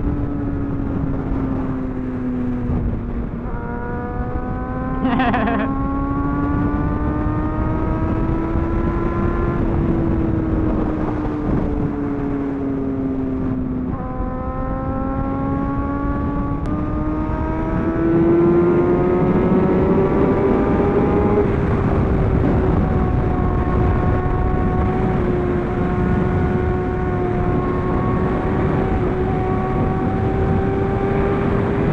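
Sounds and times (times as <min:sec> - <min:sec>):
wind noise: 0:00.0 - 0:31.9.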